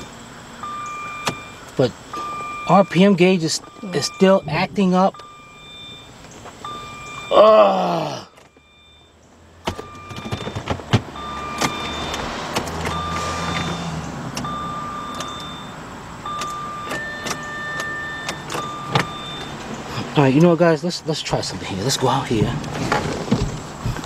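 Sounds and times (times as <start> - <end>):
electronic warning beeps: 0.0 - 20.0.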